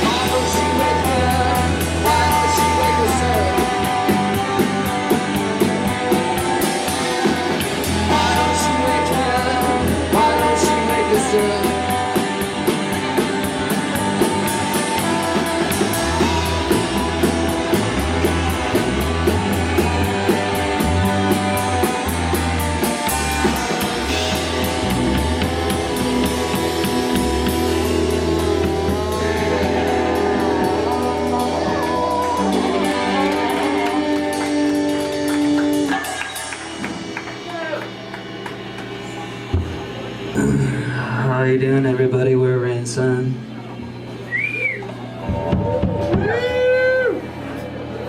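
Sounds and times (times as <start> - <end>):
live rock band instrumental: 0.0 - 48.0.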